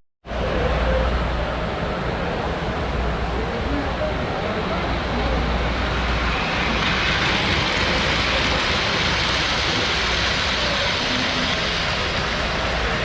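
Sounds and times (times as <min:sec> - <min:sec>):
crowd talking: 0:00.3 - 0:13.0.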